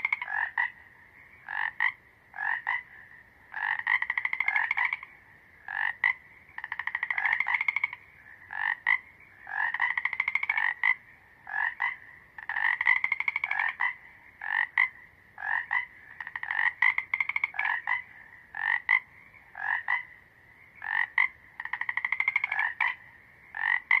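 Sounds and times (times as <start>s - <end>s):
frogs croaking: 0.0s - 24.0s.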